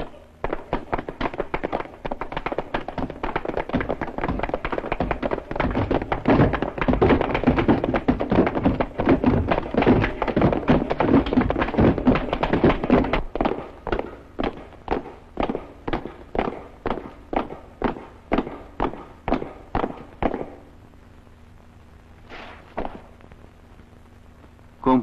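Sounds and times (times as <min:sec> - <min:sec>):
footsteps running on wooden floor: 0:00.4 - 0:20.6.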